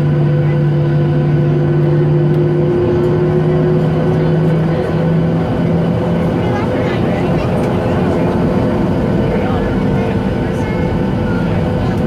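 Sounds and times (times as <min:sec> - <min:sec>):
jet engines humming inside cabin: 0:00.0 - 0:12.0.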